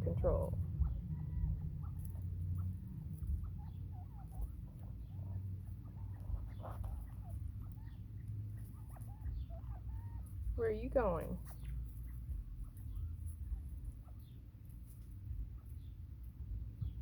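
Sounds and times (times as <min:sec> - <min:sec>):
low steady rumble: 0:00.0 - 0:17.0
quail chirping calls: 0:00.0 - 0:17.0.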